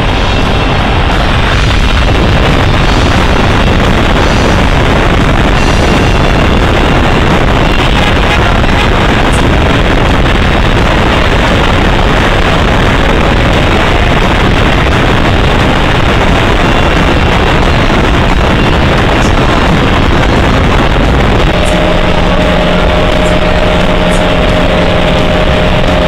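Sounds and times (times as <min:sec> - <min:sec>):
car driving: 0:00.0 - 0:26.0
wind noise on microphone: 0:00.0 - 0:26.0.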